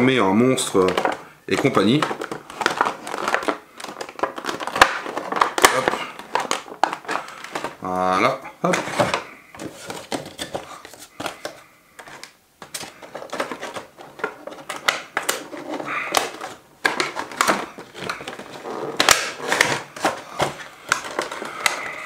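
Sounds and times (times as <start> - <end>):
packaging being handled: 0.4 - 22.0.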